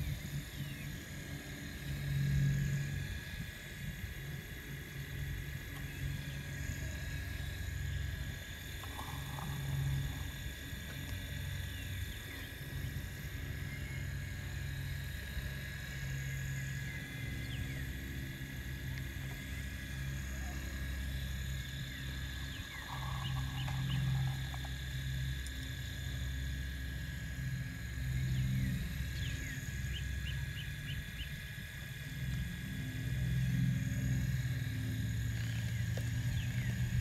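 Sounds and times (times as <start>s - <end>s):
toy excavator hydraulic hum: 0.0s - 37.0s.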